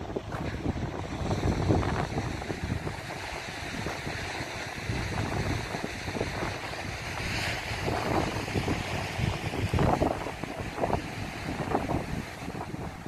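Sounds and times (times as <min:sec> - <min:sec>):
surf breaking on shore: 0:00.0 - 0:13.0
wind buffeting microphone: 0:00.0 - 0:13.0.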